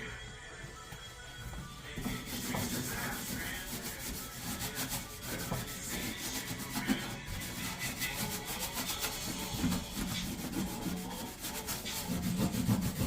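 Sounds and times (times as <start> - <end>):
rubbing and scraping at sink: 2.0 - 13.0.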